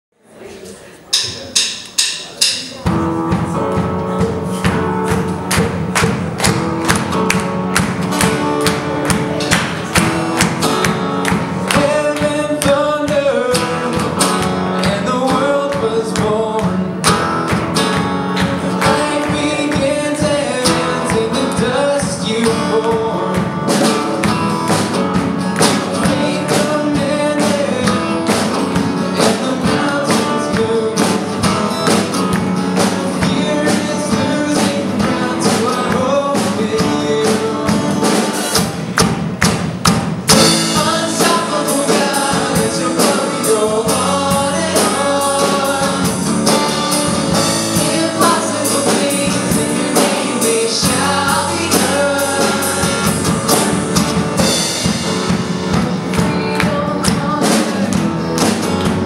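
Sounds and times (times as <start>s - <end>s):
acoustic guitar strumming: 1.1s - 59.0s
steady drum beat: 1.1s - 59.0s
voices singing: 8.3s - 24.4s, 25.6s - 38.4s, 40.3s - 59.0s.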